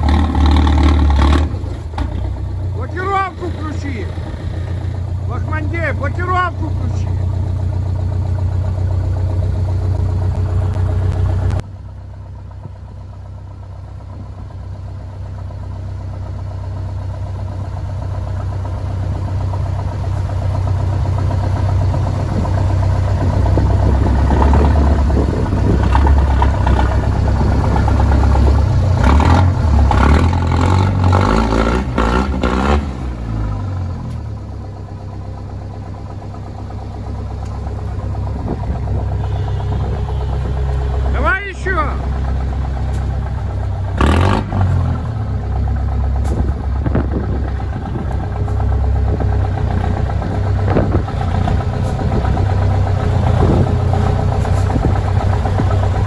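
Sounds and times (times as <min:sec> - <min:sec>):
truck engine revving under load: 0:00.0 - 0:11.6, 0:18.7 - 0:56.0.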